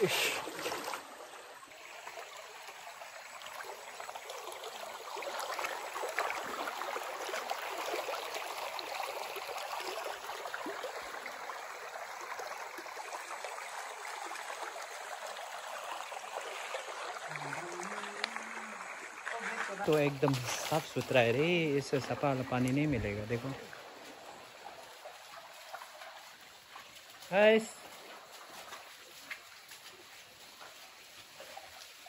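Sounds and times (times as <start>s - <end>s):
stream running over stones: 0.0s - 32.0s.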